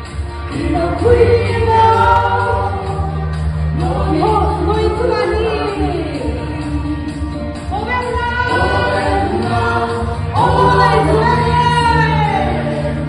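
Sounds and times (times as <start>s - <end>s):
group of voices singing: 0.0s - 13.0s
instrumental backing track: 0.0s - 13.0s.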